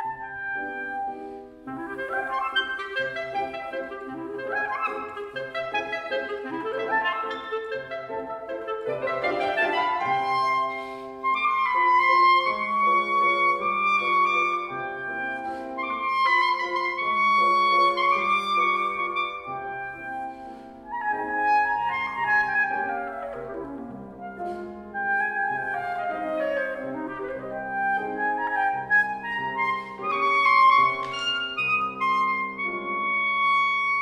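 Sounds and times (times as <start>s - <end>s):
clarinet playing: 0.0s - 34.0s
piano chords: 0.0s - 34.0s.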